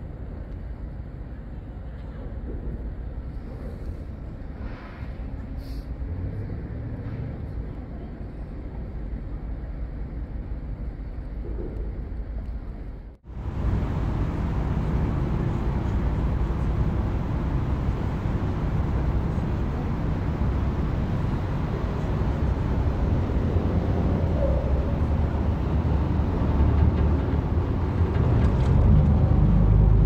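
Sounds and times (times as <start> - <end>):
dull background noise: 0.0 - 30.0
vehicle rumbling in motion: 0.0 - 30.0.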